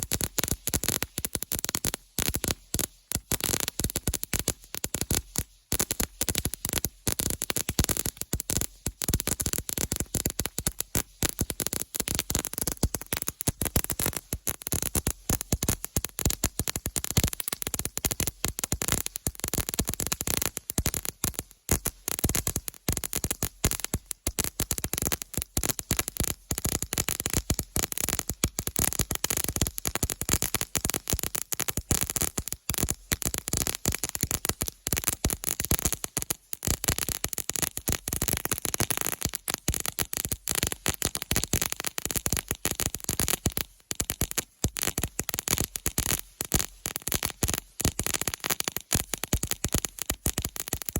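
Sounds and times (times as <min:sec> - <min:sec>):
firework fountain crackling: 0:00.0 - 0:04.5, 0:12.4 - 0:50.9.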